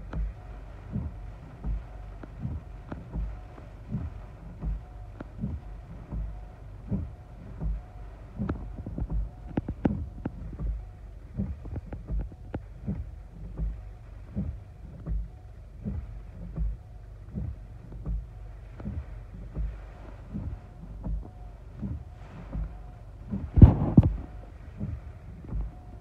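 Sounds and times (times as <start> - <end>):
rain on car windshield: 0.0 - 26.0
regular low thump: 0.0 - 26.0.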